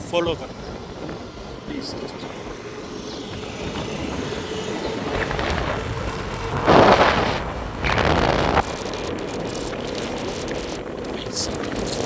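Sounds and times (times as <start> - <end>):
loud rushing bursts: 0.0 - 12.0
road and wind noise: 0.0 - 12.0.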